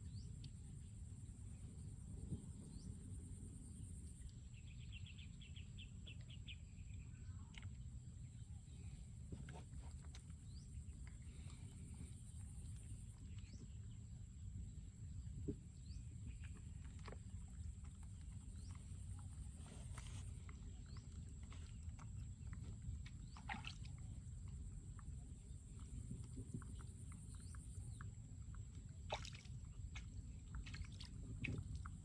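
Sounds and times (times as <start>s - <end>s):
birds chirping faintly: 0.0s - 32.0s
steady low rumble: 0.0s - 32.0s.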